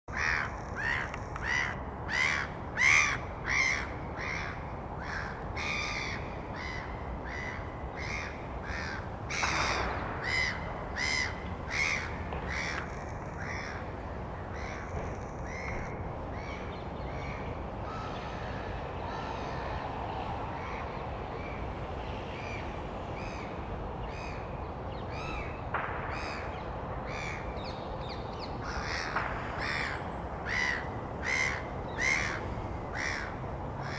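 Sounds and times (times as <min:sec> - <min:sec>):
gulls calling harshly: 0:00.1 - 0:21.6, 0:22.4 - 0:33.9.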